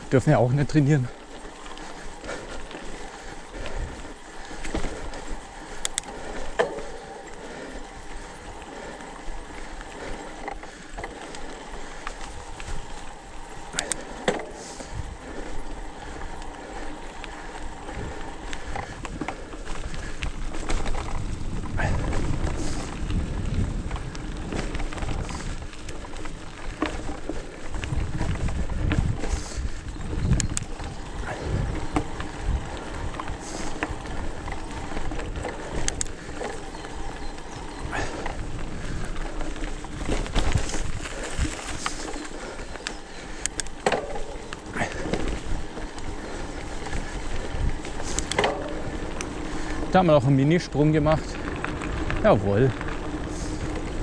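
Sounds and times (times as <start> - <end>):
bike clicks and rattles: 0.0 - 54.0
bike tyre noise: 0.0 - 54.0
wind buffeting microphone: 0.0 - 54.0.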